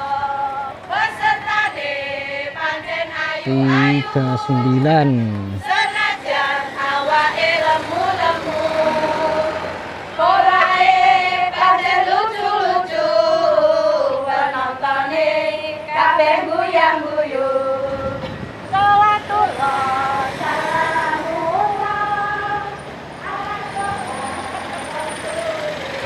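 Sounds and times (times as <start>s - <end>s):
women singing chant in unison: 0.0s - 26.0s.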